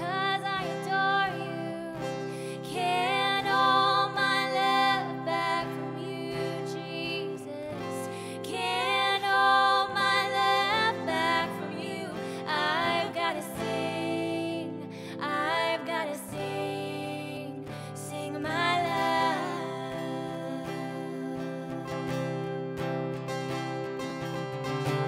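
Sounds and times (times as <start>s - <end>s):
women singing worship song: 0.0s - 22.5s
strummed acoustic guitar: 0.0s - 25.0s.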